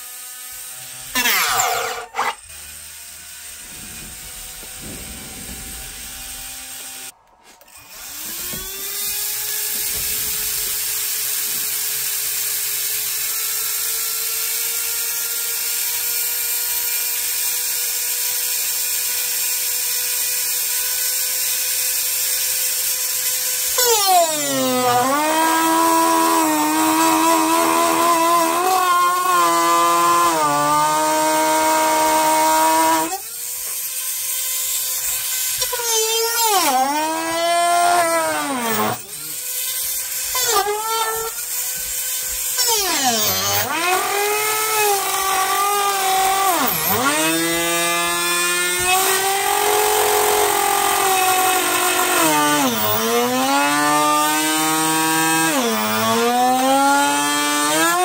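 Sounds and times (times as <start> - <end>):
small electric motor whining: 0.0 - 58.0.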